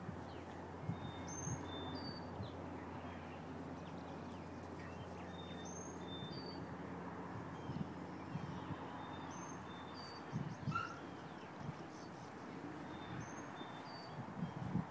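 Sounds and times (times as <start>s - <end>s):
songbird singing: 0.0s - 14.9s.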